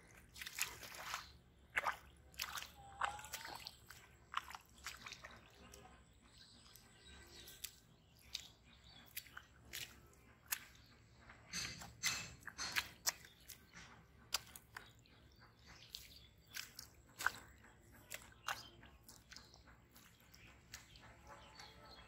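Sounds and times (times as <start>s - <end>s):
bare feet squelching in mud: 0.0s - 22.0s.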